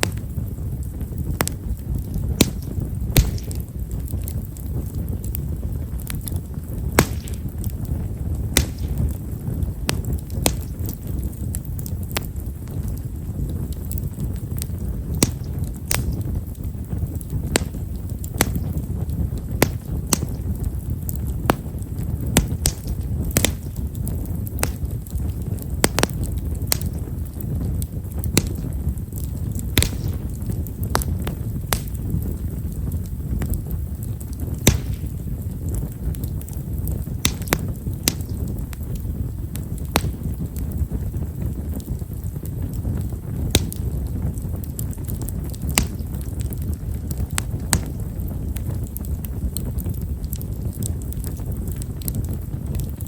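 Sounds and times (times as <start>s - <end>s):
fire low rumble: 0.0s - 53.0s
firewood crackling and popping: 0.0s - 53.0s.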